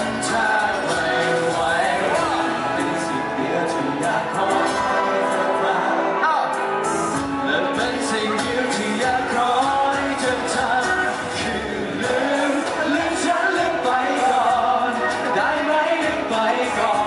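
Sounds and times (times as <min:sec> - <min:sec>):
acoustic guitar playing: 0:00.0 - 0:17.0
person singing: 0:00.0 - 0:17.0.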